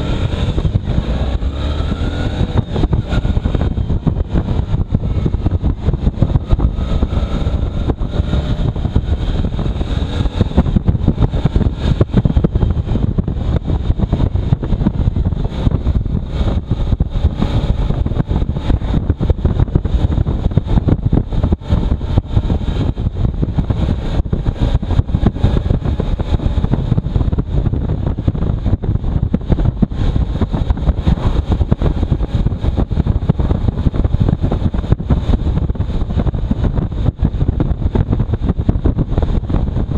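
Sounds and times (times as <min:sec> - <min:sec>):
faint motorcycle engine: 0:00.0 - 0:39.9
wind buffeting microphone: 0:00.0 - 0:39.9.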